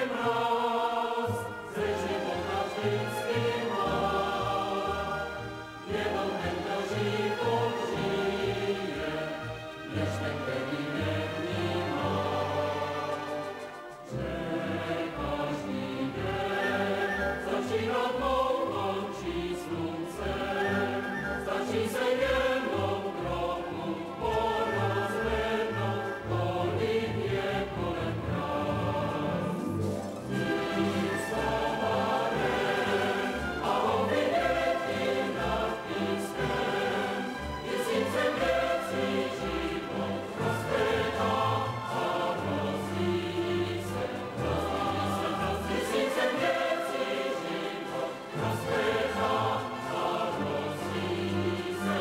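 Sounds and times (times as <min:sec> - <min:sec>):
choir with instrumental accompaniment: 0:00.0 - 0:52.0.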